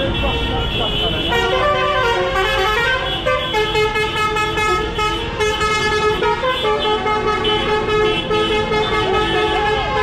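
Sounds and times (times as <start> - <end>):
loud horn tones: 0.0 - 10.0
tractor engines rumbling: 0.0 - 10.0.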